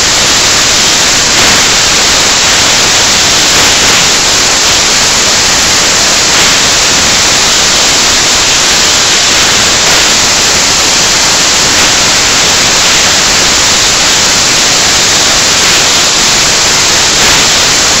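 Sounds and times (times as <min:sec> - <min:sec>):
static hiss: 0:00.0 - 0:18.0.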